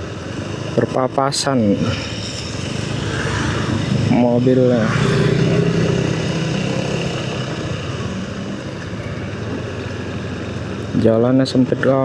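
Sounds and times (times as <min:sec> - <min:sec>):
motorcycle engine and road noise: 0:00.0 - 0:12.0
car passing by: 0:00.4 - 0:11.0.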